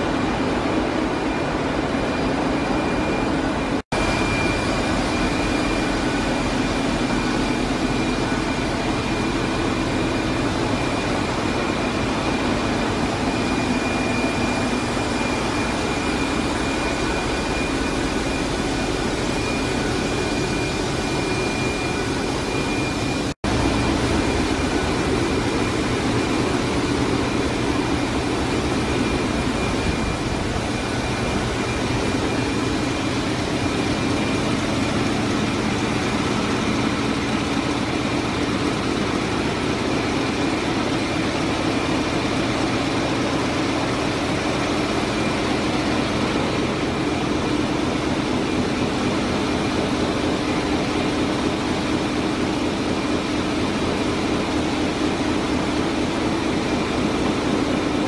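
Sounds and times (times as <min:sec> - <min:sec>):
ship engine room machinery din: 0:00.0 - 0:58.0
thin high whine: 0:00.0 - 0:58.0.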